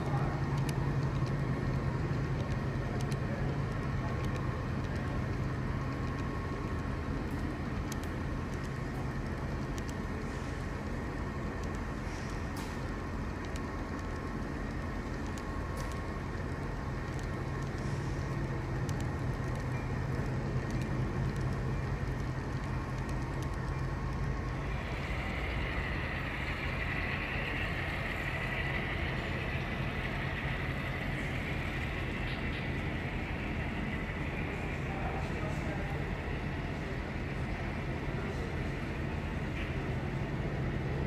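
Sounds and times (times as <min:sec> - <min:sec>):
model train rumbling on track: 0:00.0 - 0:41.0.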